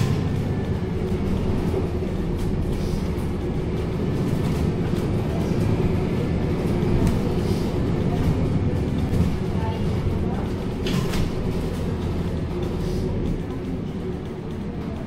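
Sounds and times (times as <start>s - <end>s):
bus engine and tyres rumbling: 0.0s - 15.0s.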